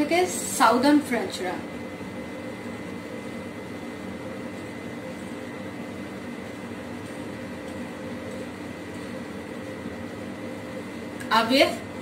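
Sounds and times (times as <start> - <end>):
appliance hum and whine: 0.0 - 12.0.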